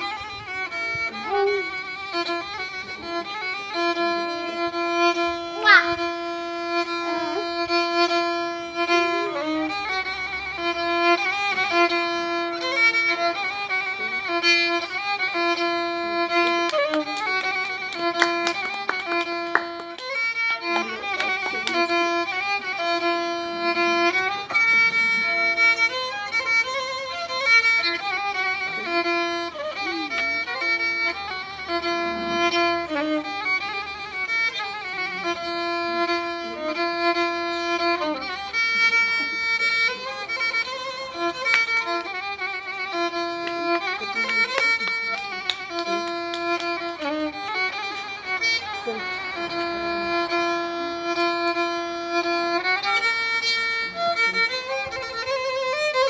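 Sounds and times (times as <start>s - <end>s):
solo bowed violin: 0.0s - 56.0s.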